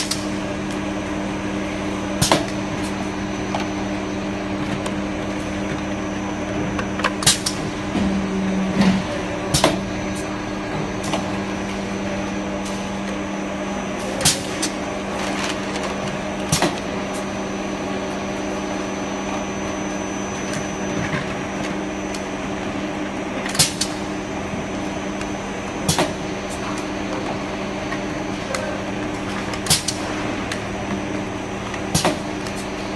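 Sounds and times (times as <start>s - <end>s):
machine hum: 0.0s - 32.9s.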